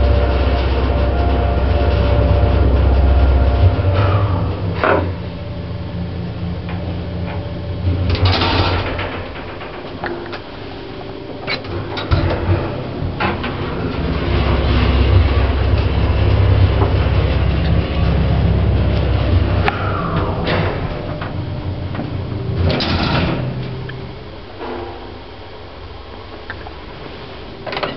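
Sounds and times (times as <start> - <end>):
lift machinery humming: 0.0 - 27.9.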